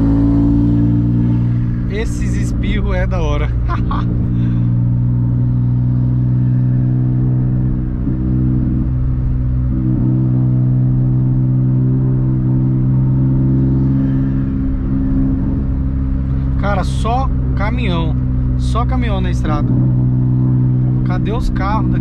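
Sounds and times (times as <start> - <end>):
car engine at highway speed: 0.0 - 22.0.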